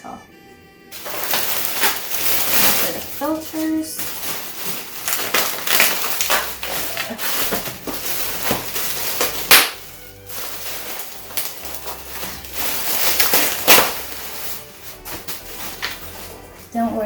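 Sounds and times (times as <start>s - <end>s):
packaging rustling and crackling: 0.9s - 17.0s.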